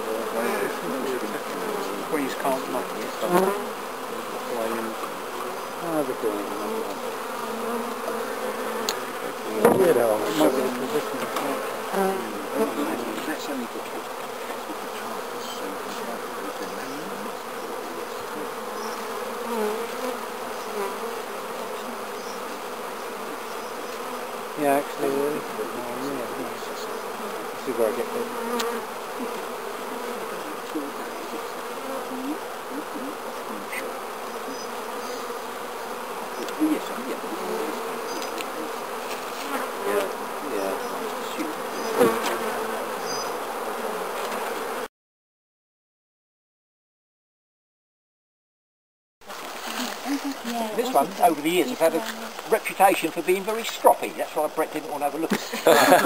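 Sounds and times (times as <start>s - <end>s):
honeybees buzzing: 0.0s - 44.9s, 49.2s - 56.0s.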